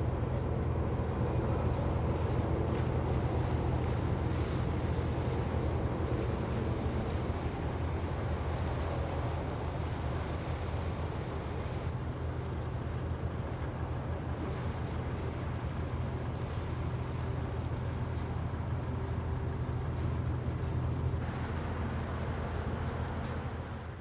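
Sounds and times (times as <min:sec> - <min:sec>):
ship engine drone: 0:00.0 - 0:24.0
water churning at stern: 0:00.0 - 0:24.0.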